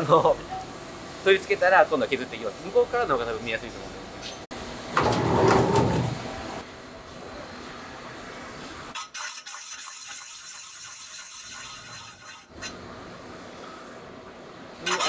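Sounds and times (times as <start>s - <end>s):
low factory background: 0.0s - 15.0s.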